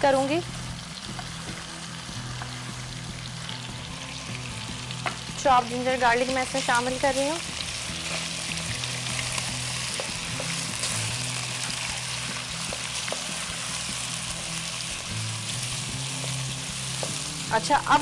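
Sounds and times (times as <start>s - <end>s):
food sizzling in hot oil: 0.0s - 18.0s
soft background music: 0.0s - 18.0s.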